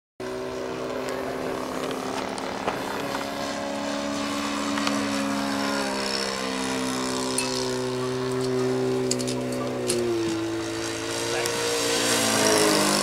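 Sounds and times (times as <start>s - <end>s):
model aeroplane engine running: 0.2s - 13.0s.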